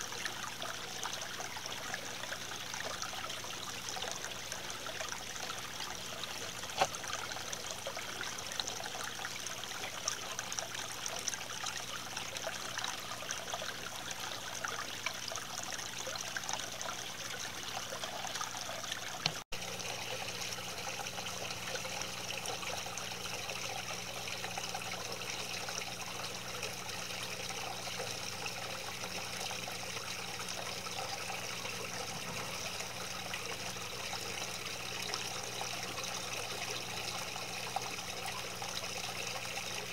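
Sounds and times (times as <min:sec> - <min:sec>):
fountain water trickling: 0:00.0 - 0:39.9.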